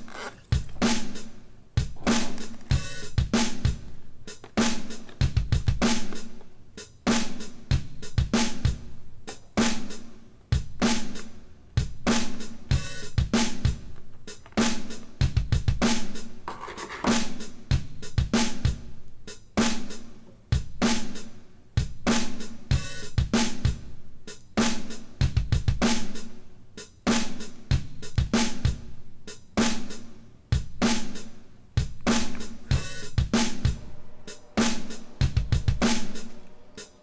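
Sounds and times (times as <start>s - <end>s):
drum kit beat: 0.0s - 37.0s.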